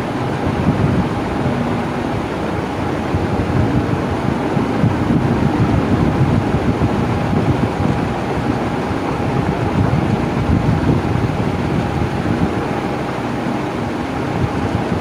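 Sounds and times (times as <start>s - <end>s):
electric fan rushing air: 0.0s - 15.0s
faint fan hum: 0.0s - 15.0s.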